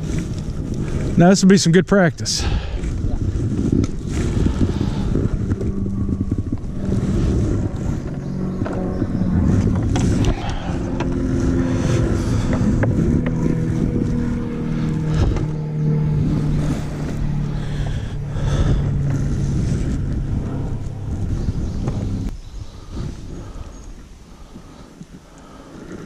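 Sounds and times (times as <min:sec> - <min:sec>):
engine drone: 0:00.0 - 0:26.0.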